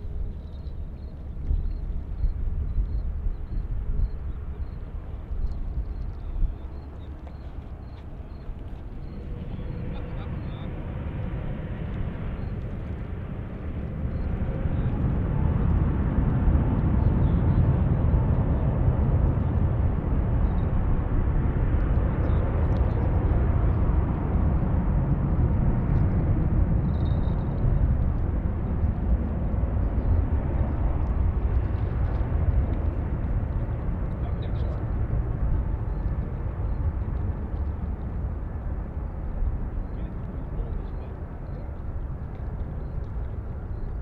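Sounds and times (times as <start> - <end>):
jet engines rumbling: 0.0 - 44.0.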